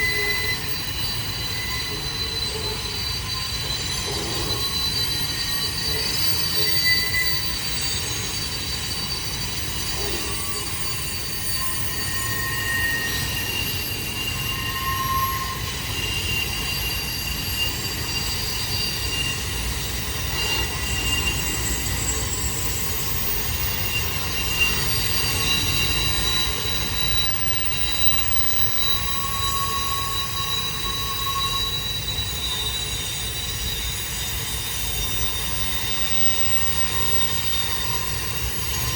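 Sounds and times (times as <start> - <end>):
train rumble: 0.0 - 38.9
train wheels squealing: 0.0 - 38.9.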